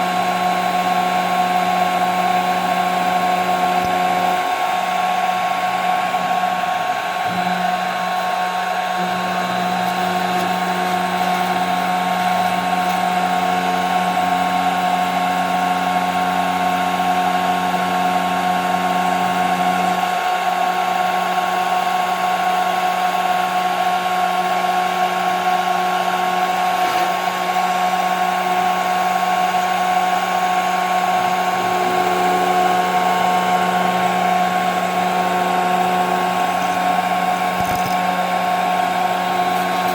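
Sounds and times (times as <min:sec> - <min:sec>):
low machine hum: 0:00.0 - 0:39.9
router spindle high whine: 0:00.0 - 0:39.9.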